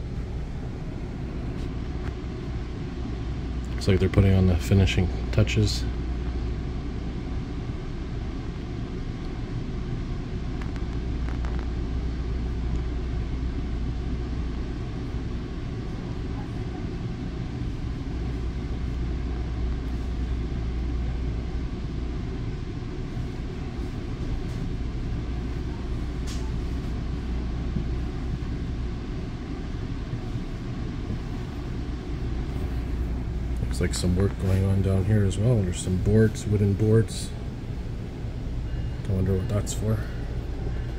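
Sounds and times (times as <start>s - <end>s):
idling train low hum: 0.0s - 40.9s.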